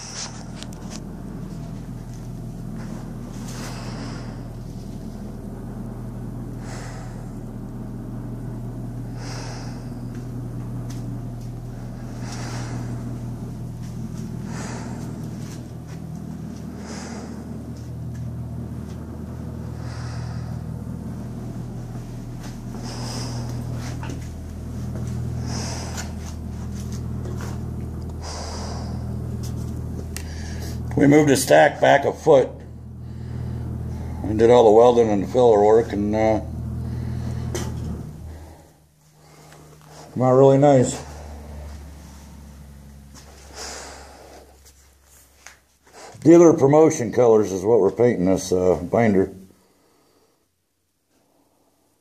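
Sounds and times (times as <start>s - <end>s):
hissy breaths: 0.0s - 30.9s, 32.6s - 34.3s, 36.6s - 46.2s
machine hum: 0.0s - 52.0s.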